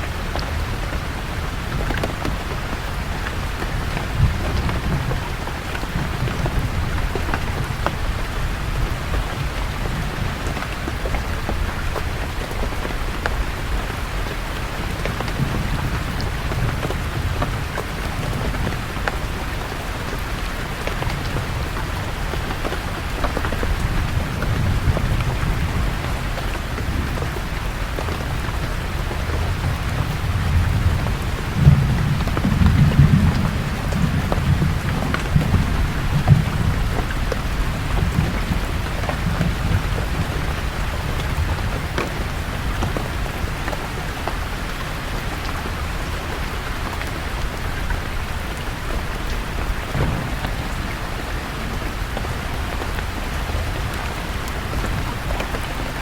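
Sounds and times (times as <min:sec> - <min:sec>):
steady rain falling: 0:00.0 - 0:56.0
thunder rumble: 0:00.1 - 0:44.1, 0:47.6 - 0:56.0.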